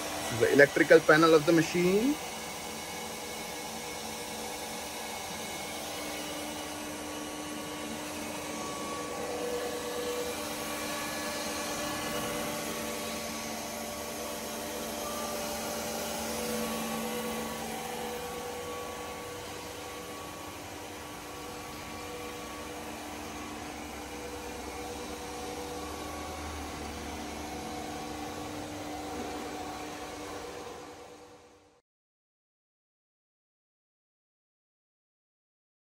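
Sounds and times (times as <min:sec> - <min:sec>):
electric machinery whirring hum: 0:00.0 - 0:31.8.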